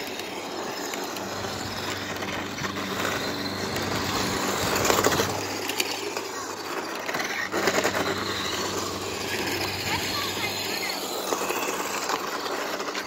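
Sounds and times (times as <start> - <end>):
toy car motors whirring: 0.0 - 13.0.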